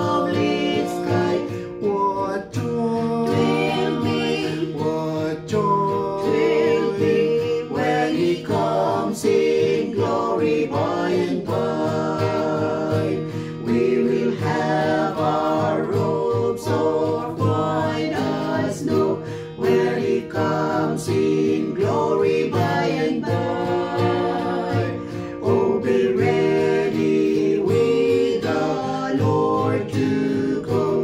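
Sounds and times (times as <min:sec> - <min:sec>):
people singing a hymn: 0:00.0 - 0:31.0
strummed acoustic guitar: 0:00.0 - 0:31.0.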